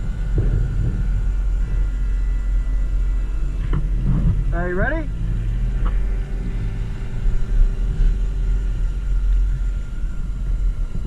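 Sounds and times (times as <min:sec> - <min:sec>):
jet ski engine idling: 0:00.0 - 0:11.0.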